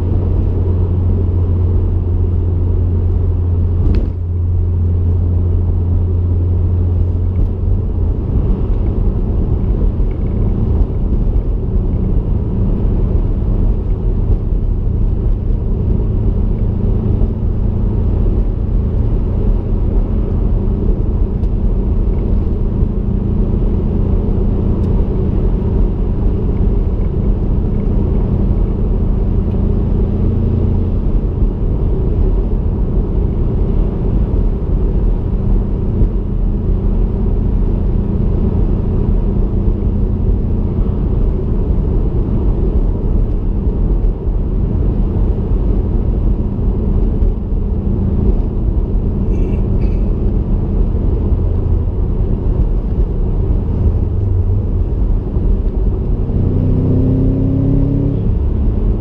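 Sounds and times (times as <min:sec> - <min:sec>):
car engine and exhaust hum: 0:00.0 - 0:59.0
road noise: 0:00.0 - 0:59.0.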